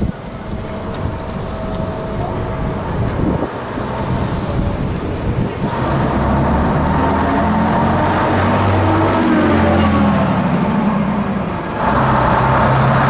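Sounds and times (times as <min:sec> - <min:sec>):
bus diesel engine running: 0:00.0 - 0:13.0
steady whine: 0:00.0 - 0:13.0.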